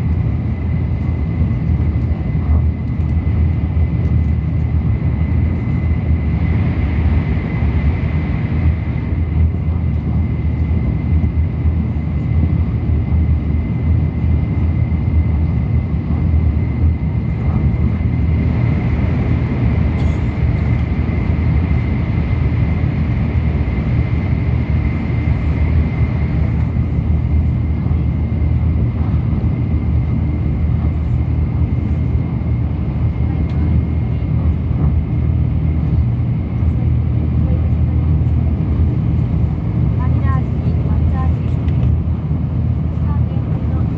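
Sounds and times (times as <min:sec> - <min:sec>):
train wheels and air rumbling: 0:00.0 - 0:43.9.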